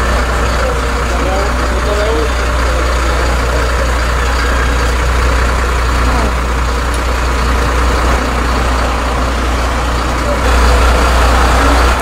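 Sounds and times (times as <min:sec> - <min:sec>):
coach engine idling: 0:00.0 - 0:12.0.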